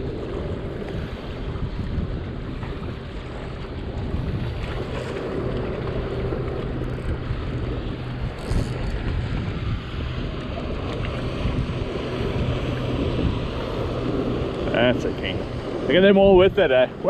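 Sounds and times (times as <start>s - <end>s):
motorboat engine droning: 0.0s - 17.0s
wind buffeting microphone: 0.0s - 17.0s.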